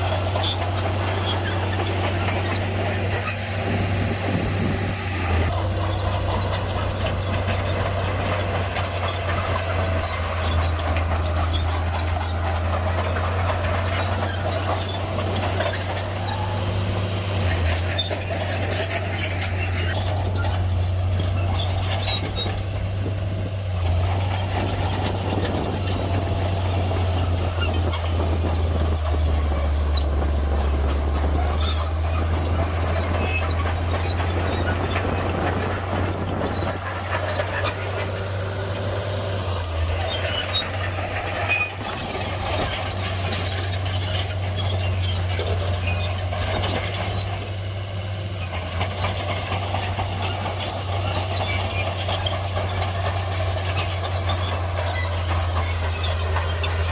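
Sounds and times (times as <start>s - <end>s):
bulldozer diesel engine droning: 0.0s - 56.9s
clanks and crackles of rock: 5.3s - 56.9s.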